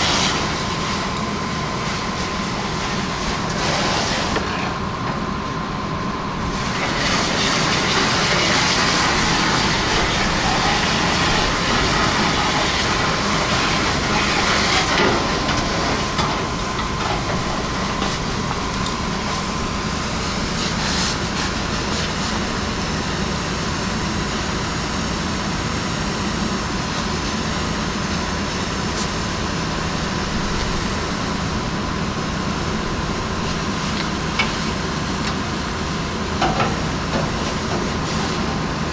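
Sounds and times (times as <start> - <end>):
hose spraying water: 0.0 - 4.6, 6.5 - 23.4, 26.9 - 38.8
fire engine pump drone: 0.0 - 38.9.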